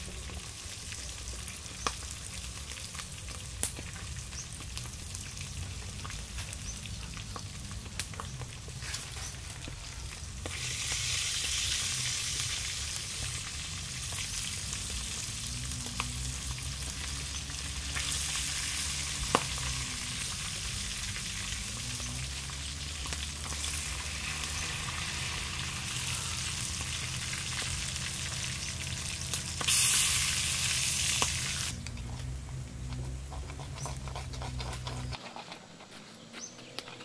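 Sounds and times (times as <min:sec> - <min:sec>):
food sizzling: 0:00.0 - 0:32.9.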